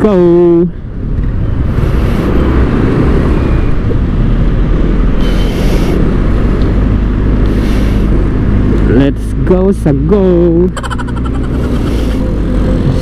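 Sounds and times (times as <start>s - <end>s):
scooter engine and road noise: 0.0s - 13.0s
wind rumble on microphone: 0.8s - 13.0s.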